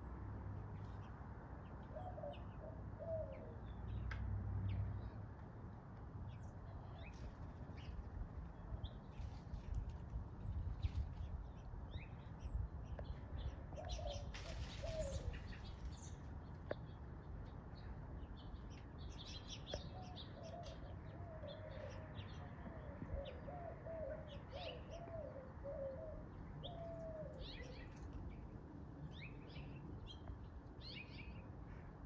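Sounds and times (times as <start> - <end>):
small birds chirping: 0.8 - 32.0.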